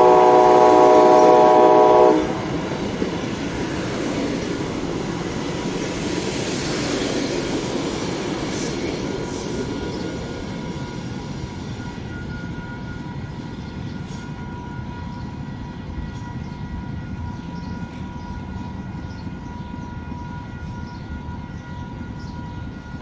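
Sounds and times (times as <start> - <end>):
train running on rails: 0.0 - 23.0.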